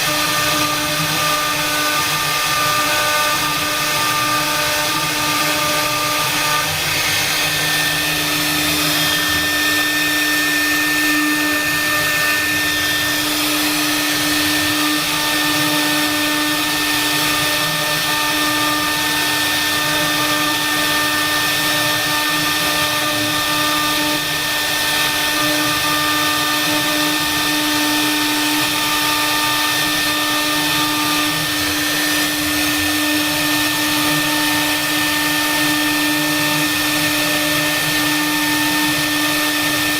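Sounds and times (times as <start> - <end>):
router hum: 0.0 - 39.9.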